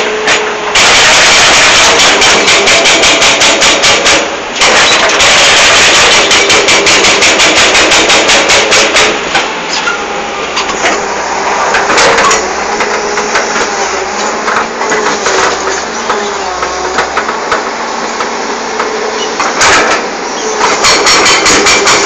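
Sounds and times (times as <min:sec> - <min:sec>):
hydraulic rock breaker hammering: 0:00.0 - 0:10.0, 0:10.6 - 0:22.0
excavator engine running: 0:00.0 - 0:22.0.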